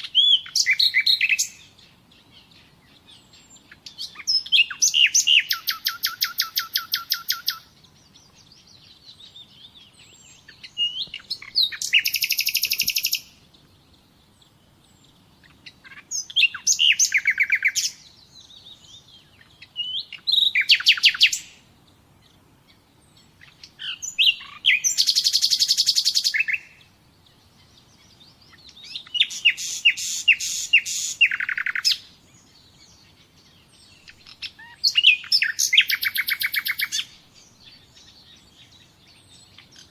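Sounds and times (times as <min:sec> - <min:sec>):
faint bird chirps: 0:00.0 - 0:39.9
songbird trilling: 0:00.0 - 0:39.9.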